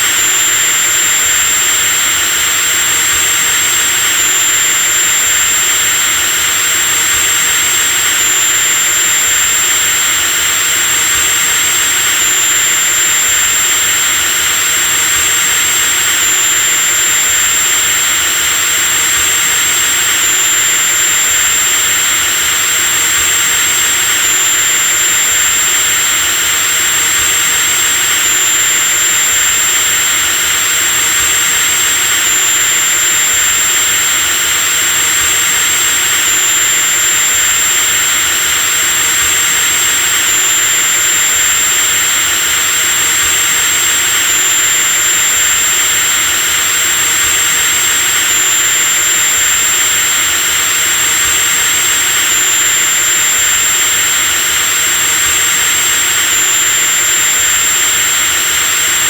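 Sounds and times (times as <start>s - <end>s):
electric drill motor whining: 0.0s - 59.0s.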